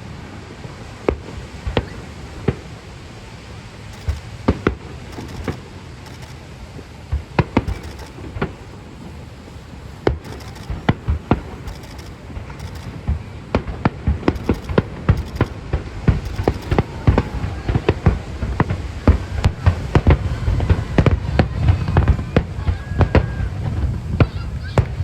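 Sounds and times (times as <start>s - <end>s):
fireworks booming: 0.0s - 25.0s
steady background noise: 0.0s - 25.0s.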